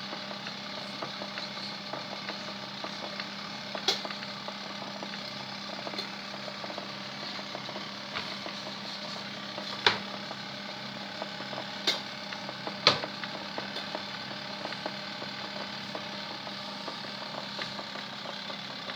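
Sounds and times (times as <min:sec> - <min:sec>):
washing machine motor hum: 0:00.0 - 0:18.9.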